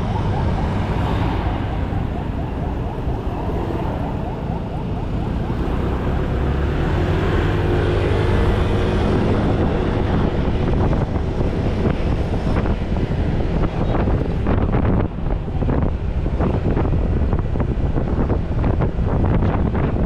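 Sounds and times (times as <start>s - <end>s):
heavy engine and road rumble: 0.0s - 20.0s
wind noise on microphone: 0.0s - 20.0s.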